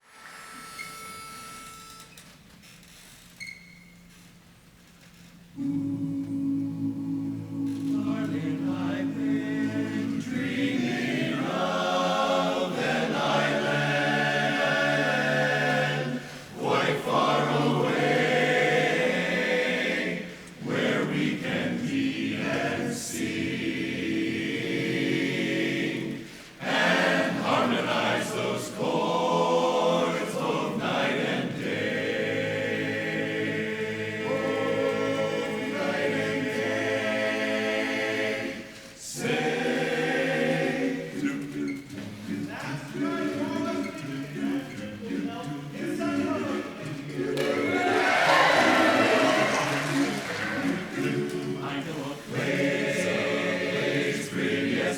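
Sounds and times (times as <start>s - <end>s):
chorus singing a cappella: 5.6s - 54.9s.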